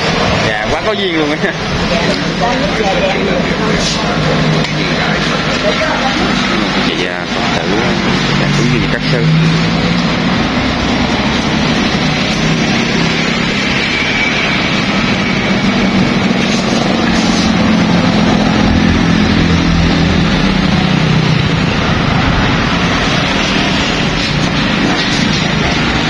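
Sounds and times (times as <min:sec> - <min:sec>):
motorbike engines passing: 0:00.0 - 0:26.0
truck engines passing: 0:00.0 - 0:26.0.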